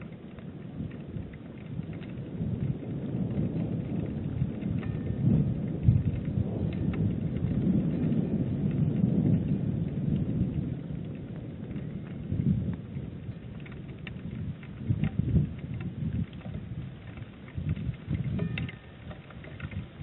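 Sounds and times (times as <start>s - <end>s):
heavy rain drumming on microphone: 0.0s - 20.0s.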